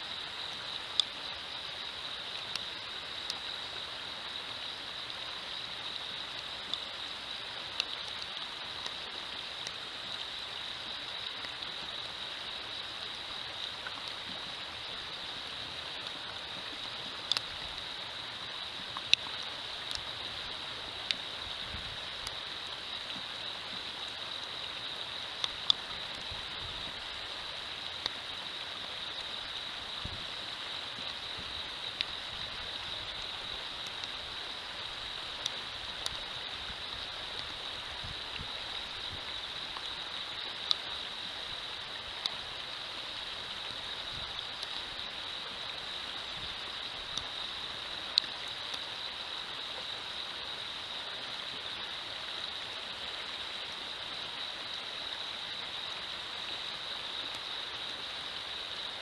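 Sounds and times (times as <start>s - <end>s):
constant high-pitched tone: 0.0s - 59.0s
river running over stones: 0.0s - 59.0s.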